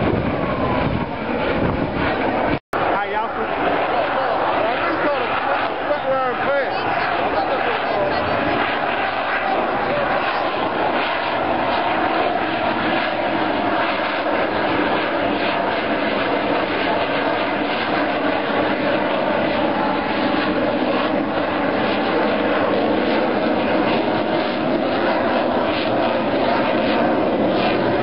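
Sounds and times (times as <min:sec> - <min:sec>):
fighter jet flying: 0:00.0 - 0:28.0.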